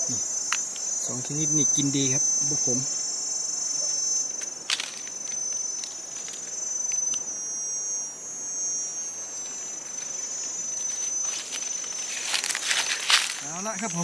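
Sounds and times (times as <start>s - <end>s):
shrill insect chorus: 0.0s - 14.0s.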